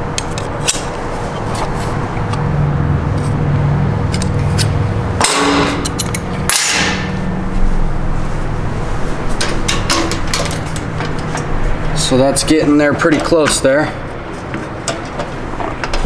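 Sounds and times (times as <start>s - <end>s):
steady low hum: 0.0s - 16.0s
metal scraping: 0.5s - 15.8s.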